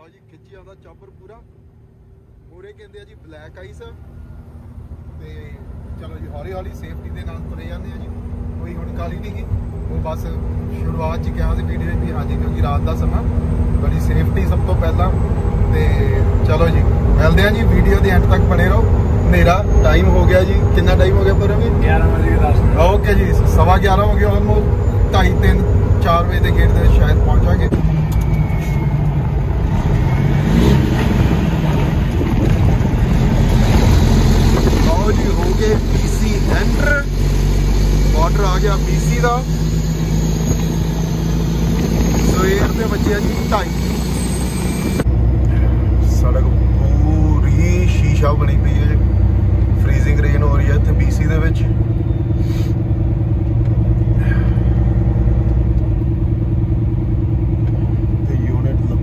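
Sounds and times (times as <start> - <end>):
truck diesel engine rumbling: 0.0 - 59.0
tyre and road noise: 0.0 - 59.0.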